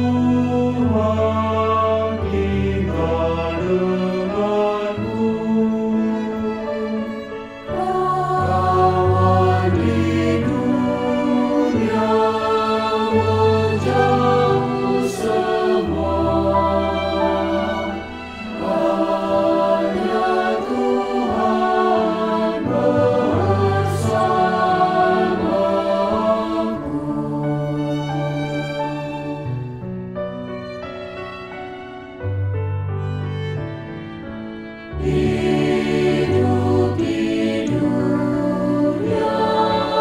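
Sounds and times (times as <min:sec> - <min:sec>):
male choir singing a hymn: 0:00.0 - 0:29.6, 0:35.0 - 0:40.0.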